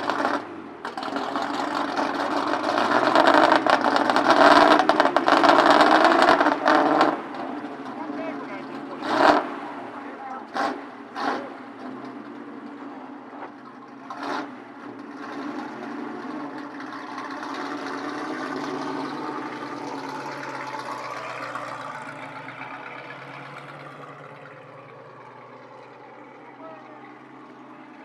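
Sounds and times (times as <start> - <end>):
car engine passing by: 0.0 - 28.0.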